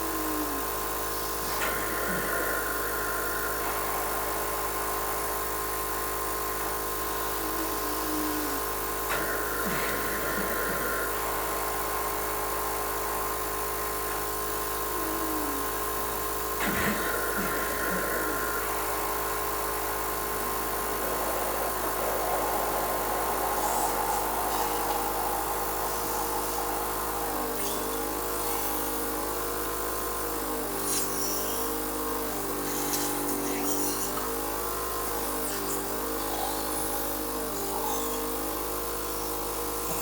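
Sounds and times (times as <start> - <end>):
machine blower whine: 0.0 - 40.0.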